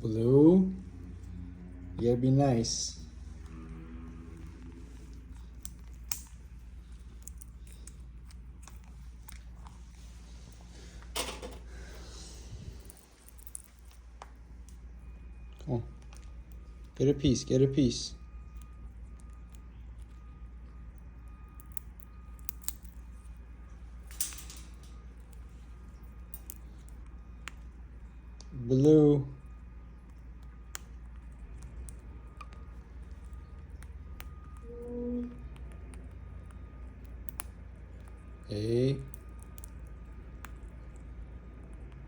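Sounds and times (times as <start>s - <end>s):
low steady hum: 0.0s - 42.0s
parakeets nibbling food: 2.7s - 17.0s, 18.2s - 34.7s, 35.3s - 42.0s.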